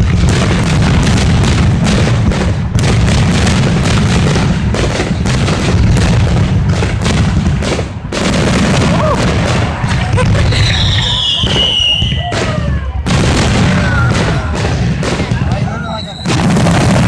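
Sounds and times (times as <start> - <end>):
fireworks booms and bangs: 0.0 - 17.0.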